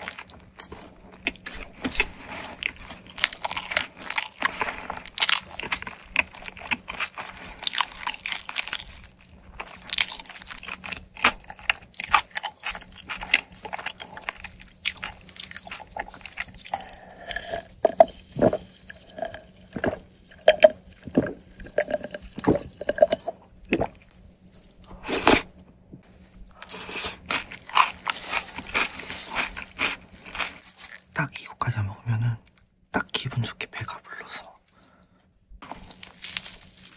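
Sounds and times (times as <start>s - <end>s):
chewing crunchy pizza: 0.0s - 31.4s, 35.6s - 36.9s.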